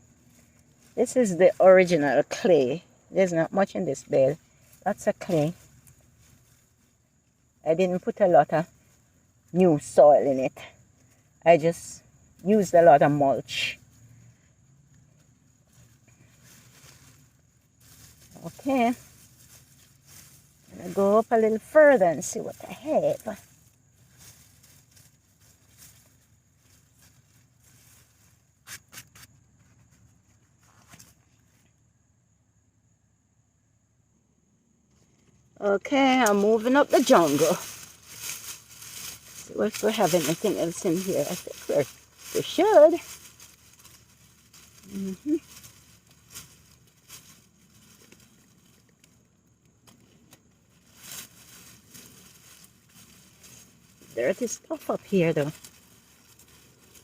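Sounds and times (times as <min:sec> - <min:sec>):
rustling foliage: 0:00.0 - 0:31.8, 0:34.9 - 0:57.0.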